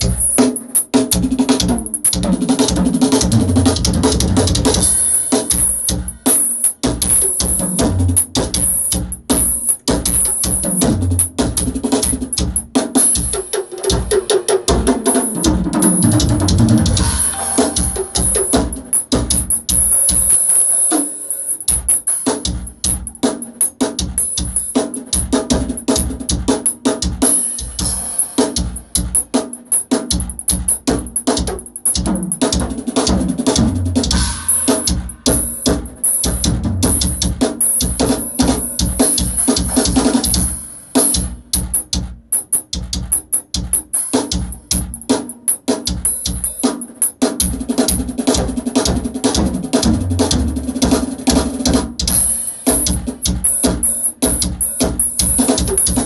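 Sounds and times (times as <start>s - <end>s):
drum kit played fast: 0.0s - 56.0s.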